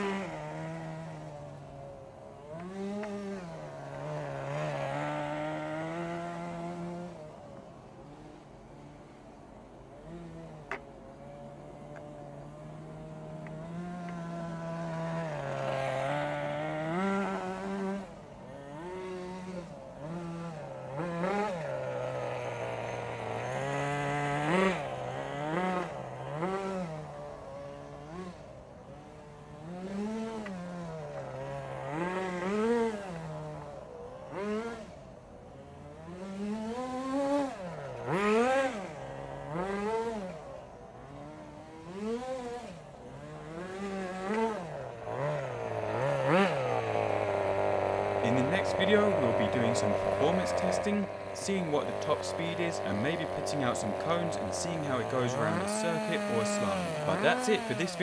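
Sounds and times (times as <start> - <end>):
rc car engine revving: 0.0 - 9.1, 9.9 - 58.0.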